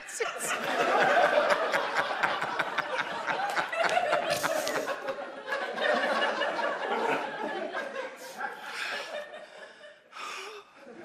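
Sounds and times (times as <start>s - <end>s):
studio audience laughing: 0.2s - 10.1s.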